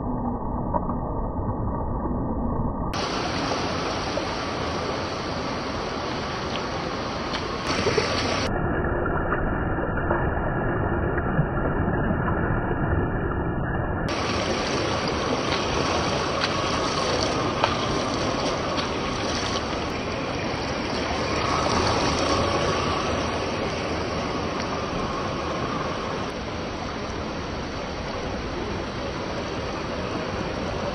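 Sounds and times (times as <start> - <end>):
water rushing: 2.9 - 13.1, 14.1 - 30.9.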